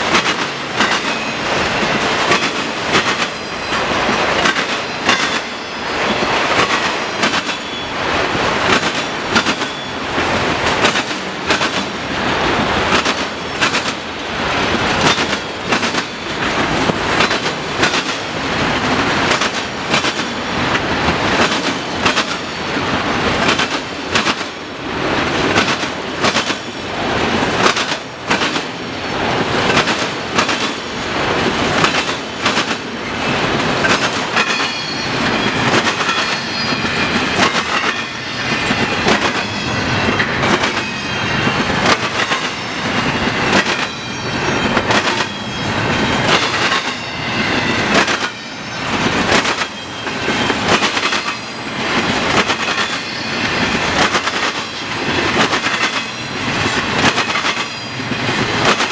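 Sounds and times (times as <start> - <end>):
train wheels clattering over crossing: 0.0 - 58.9.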